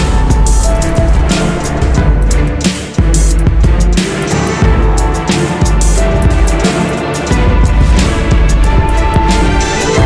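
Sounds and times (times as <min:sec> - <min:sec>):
music with heavy bass: 0:00.0 - 0:10.0.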